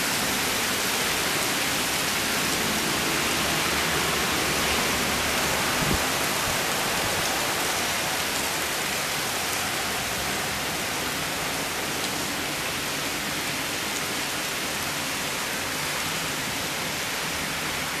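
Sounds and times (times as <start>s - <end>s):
heavy rain on pavement: 0.0s - 18.0s.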